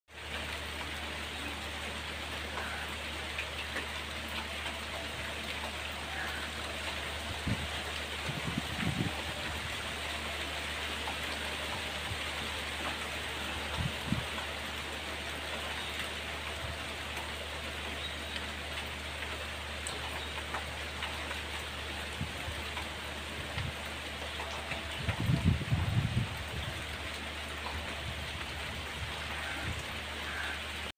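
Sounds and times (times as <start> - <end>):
heavy rain on leaves and water: 0.1 - 30.9.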